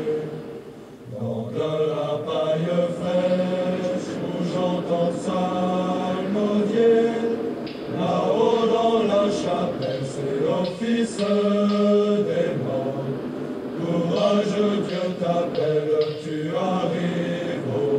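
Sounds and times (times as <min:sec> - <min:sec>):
choir singing slow chant: 0:00.0 - 0:17.9.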